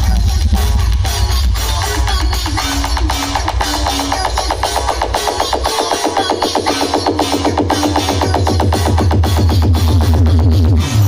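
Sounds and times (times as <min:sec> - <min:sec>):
loud dance music with booming bass: 0:00.0 - 0:11.0.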